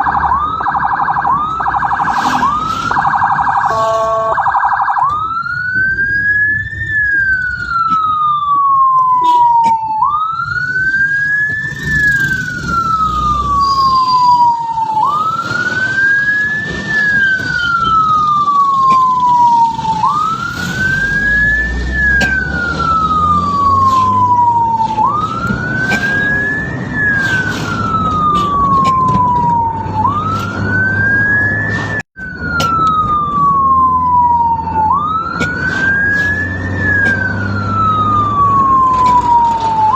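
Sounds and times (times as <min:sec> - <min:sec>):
ambulance siren wailing: 0:00.0 - 0:39.9
vehicle rumble: 0:00.0 - 0:39.9.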